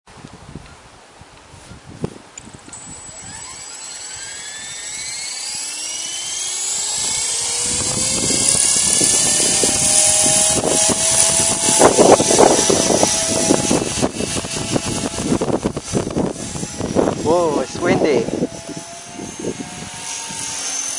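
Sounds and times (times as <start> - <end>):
wind buffeting microphone: 0.1 - 20.8
rc helicopter motor whine: 2.4 - 20.9.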